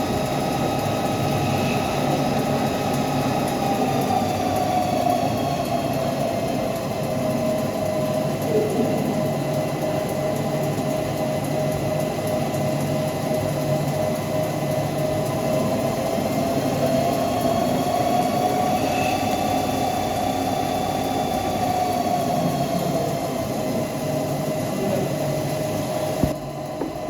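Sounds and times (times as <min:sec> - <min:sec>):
lathe machine drone and whine: 0:00.0 - 0:27.0.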